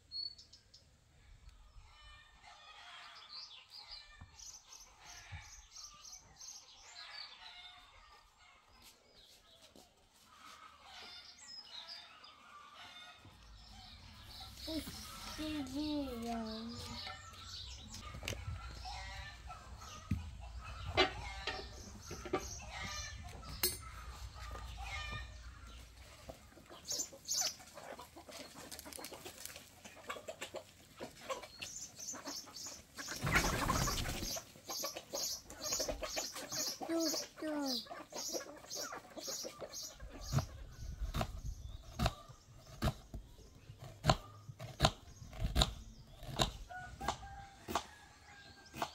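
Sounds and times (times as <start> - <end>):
chickens clucking: 1.0 - 48.9.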